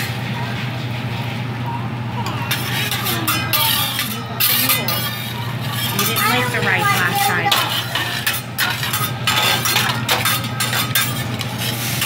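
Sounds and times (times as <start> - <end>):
metal spatulas clanking on griddle: 2.3 - 12.0.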